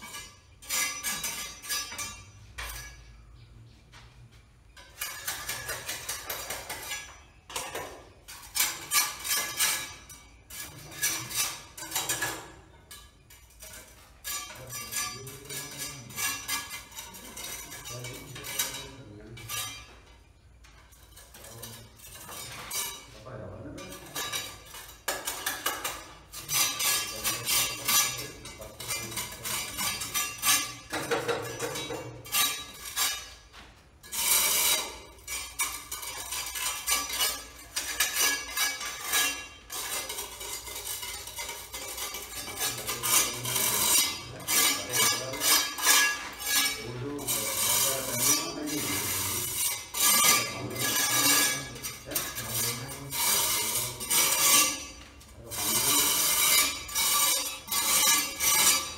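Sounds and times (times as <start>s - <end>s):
steel trowel scraping concrete: 0.0s - 3.1s, 4.8s - 20.0s, 21.0s - 58.9s.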